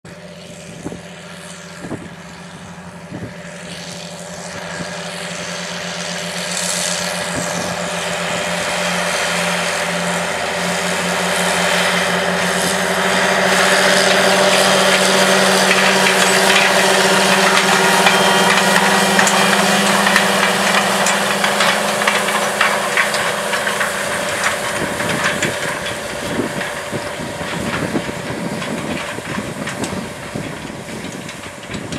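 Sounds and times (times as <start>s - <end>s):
tractor diesel engine running: 0.0s - 31.9s
implement rattling through soil: 0.1s - 31.9s.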